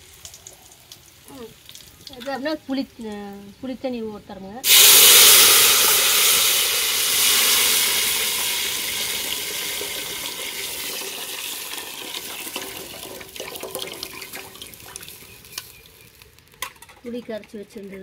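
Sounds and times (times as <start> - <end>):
liquid pouring into hot oil sizzling: 0.0 - 2.9, 4.6 - 16.8
dripping: 0.0 - 3.2, 4.6 - 17.5.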